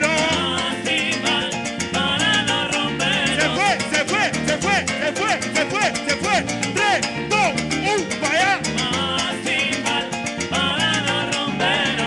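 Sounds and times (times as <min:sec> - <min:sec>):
busy percussion: 0:00.0 - 0:12.0
latin dance band playing: 0:00.0 - 0:12.0.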